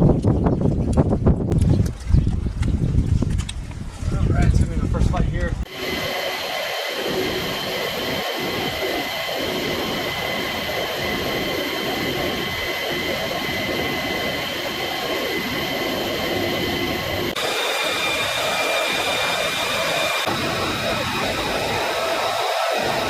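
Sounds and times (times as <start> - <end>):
jet engines rushing and whining: 4.2 - 23.0.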